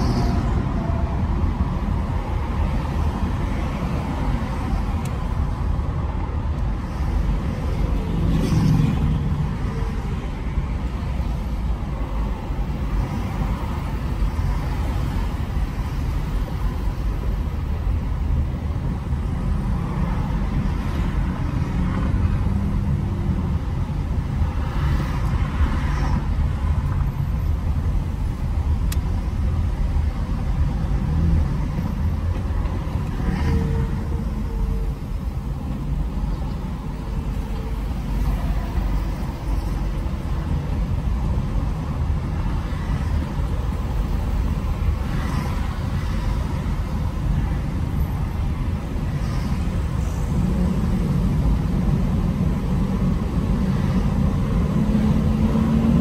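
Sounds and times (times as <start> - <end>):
car engine and tyre rumble: 0.0 - 56.0
vehicles passing: 0.0 - 56.0.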